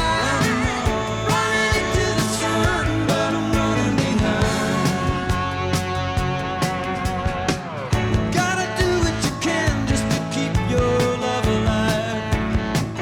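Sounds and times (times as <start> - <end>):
rock song with singing: 0.0 - 13.0.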